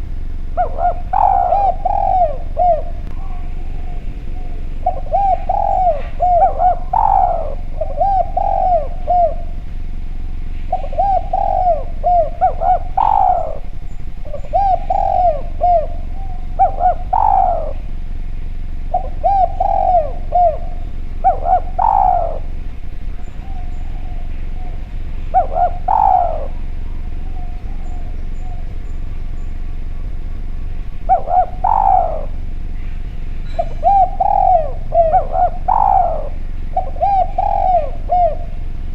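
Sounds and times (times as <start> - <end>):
dove cooing: 0.0 - 38.9
low hum: 0.0 - 38.9.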